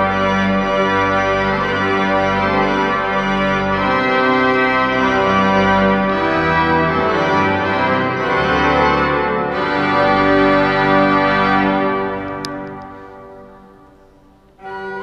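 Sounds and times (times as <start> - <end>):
pipe organ playing chords: 0.0 - 15.0.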